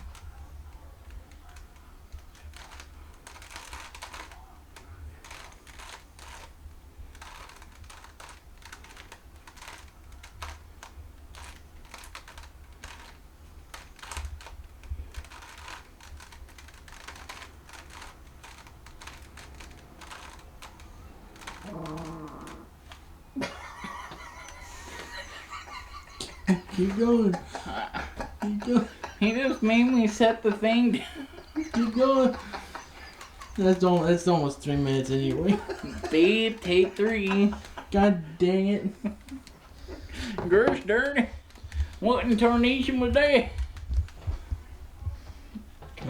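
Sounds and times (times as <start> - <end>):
plastic puzzle cube clicking: 0.0 - 23.2, 23.8 - 38.2, 39.0 - 44.4.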